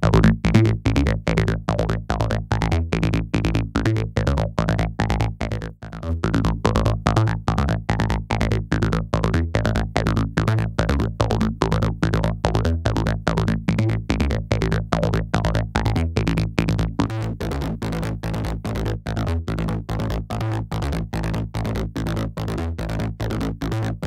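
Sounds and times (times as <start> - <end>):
distorted bass line: 0.0 - 24.0.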